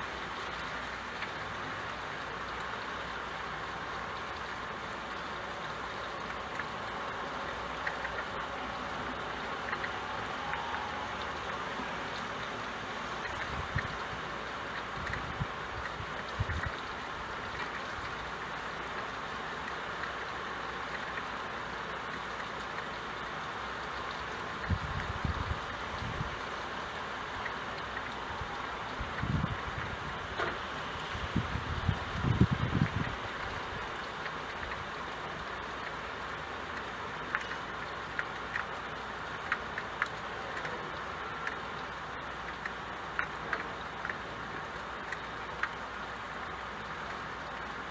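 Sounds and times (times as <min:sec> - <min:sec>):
light drip ticks: 0:00.0 - 0:47.9
rain falling: 0:00.0 - 0:47.9.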